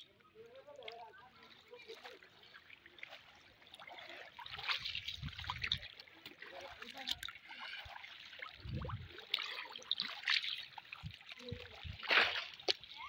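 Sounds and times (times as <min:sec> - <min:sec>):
muddy water splashing: 0:00.0 - 0:13.0.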